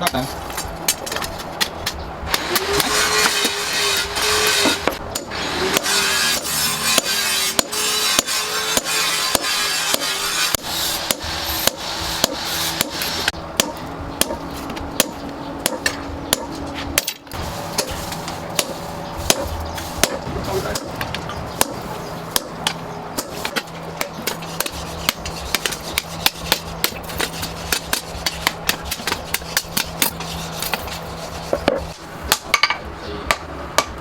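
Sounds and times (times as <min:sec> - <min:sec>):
hammer striking metal: 0:00.0 - 0:14.4, 0:15.0 - 0:30.8, 0:31.6 - 0:34.0.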